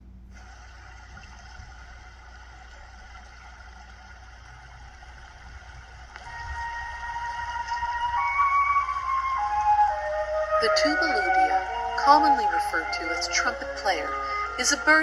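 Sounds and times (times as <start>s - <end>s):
low even rumble: 0.0s - 15.0s
river water flowing: 0.4s - 15.0s.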